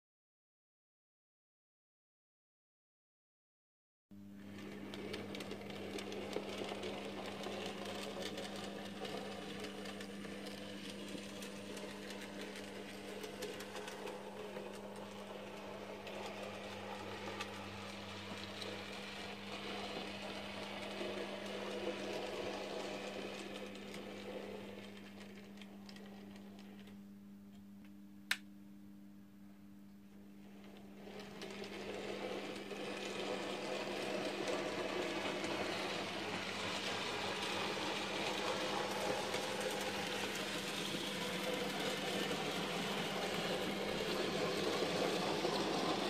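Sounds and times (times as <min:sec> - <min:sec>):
steady low hum: 0:04.2 - 0:46.0
model train motor whirring: 0:04.5 - 0:26.9, 0:30.6 - 0:46.0.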